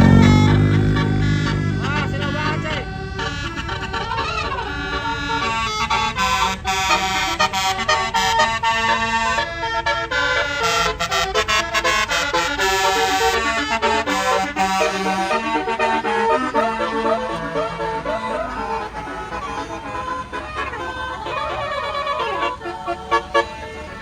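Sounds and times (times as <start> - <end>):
musical air horn playing tune: 0.0 - 24.0.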